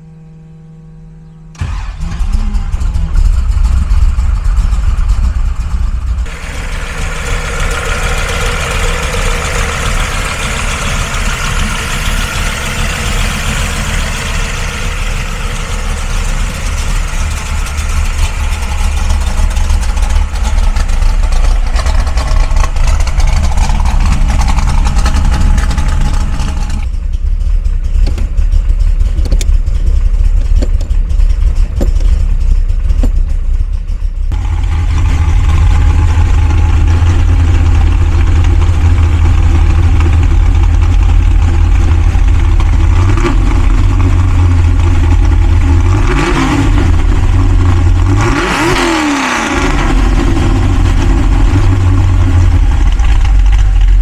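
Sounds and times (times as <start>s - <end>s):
raspy exhaust with mechanical hiss: 0.0s - 48.8s
car engine idling: 0.0s - 54.0s.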